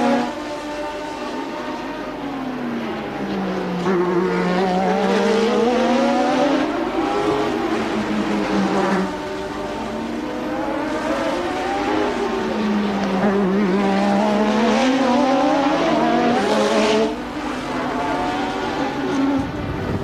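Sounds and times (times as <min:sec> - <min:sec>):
racing car engine: 0:00.0 - 0:20.0.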